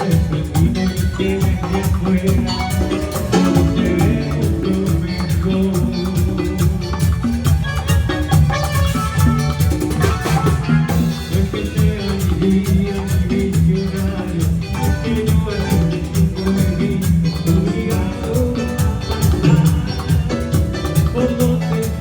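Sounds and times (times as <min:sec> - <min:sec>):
live band playing latin dance music: 0:00.0 - 0:22.0.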